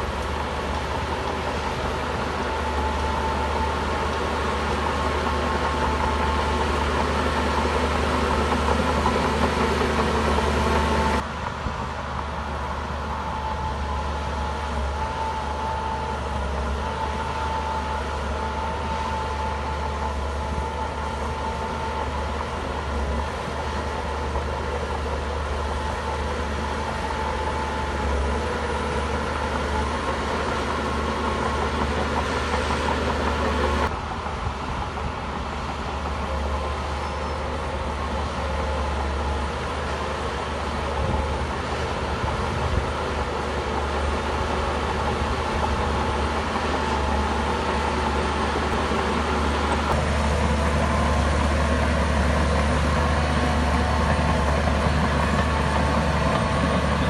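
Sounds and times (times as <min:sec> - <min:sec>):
diesel earthmoving machine humming: 0:00.0 - 0:57.0.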